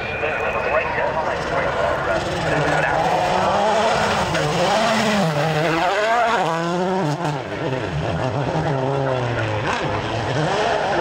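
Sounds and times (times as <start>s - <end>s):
rally car engine at full throttle: 0.0s - 11.0s.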